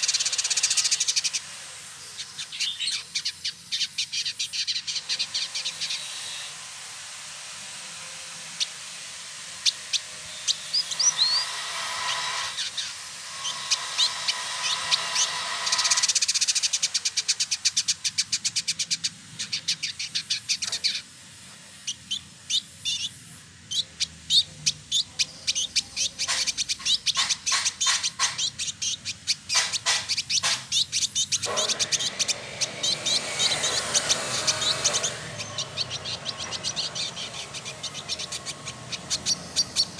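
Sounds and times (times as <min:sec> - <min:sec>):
bird ticking and chattering: 0:00.0 - 0:06.2, 0:08.6 - 0:21.1, 0:21.8 - 0:39.9.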